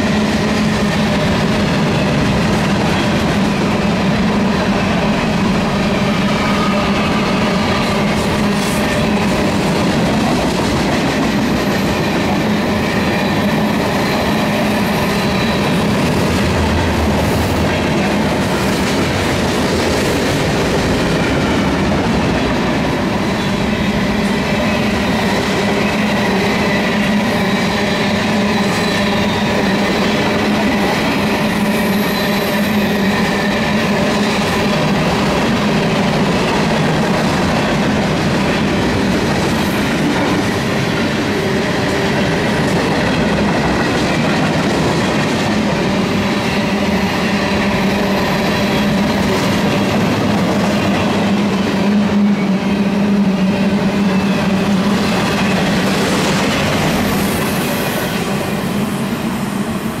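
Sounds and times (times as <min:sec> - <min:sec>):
freight train passing: 0:00.0 - 1:00.0.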